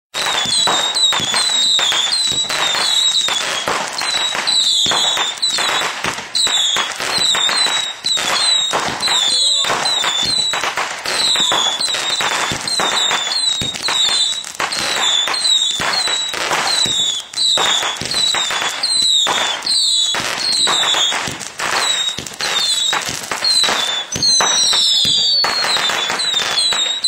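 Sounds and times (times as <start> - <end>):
fireworks popping and banging: 0.1 - 27.0
falling firework whistles: 0.2 - 27.0.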